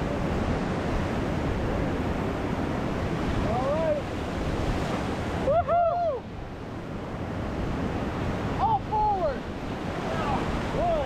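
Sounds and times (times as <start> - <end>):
whitewater river rushing: 0.0 - 11.0.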